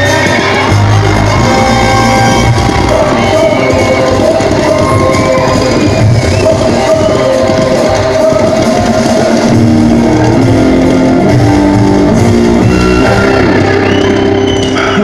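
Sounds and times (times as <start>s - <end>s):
background music with guitar and drums: 0.0s - 15.0s.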